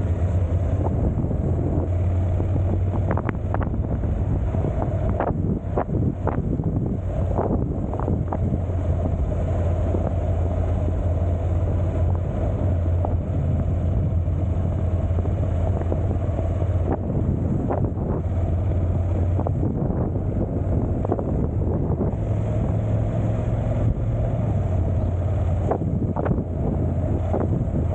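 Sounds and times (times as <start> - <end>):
motorcycle engine drone: 0.0 - 27.9
wind rushing over microphone: 0.0 - 27.9.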